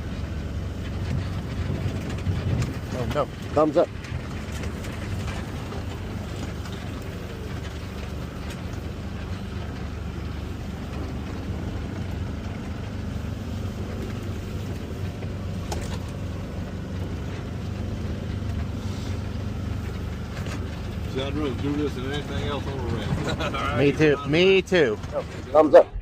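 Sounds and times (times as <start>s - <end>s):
road and wind noise: 0.0s - 26.0s
vehicle engine running: 0.0s - 26.0s.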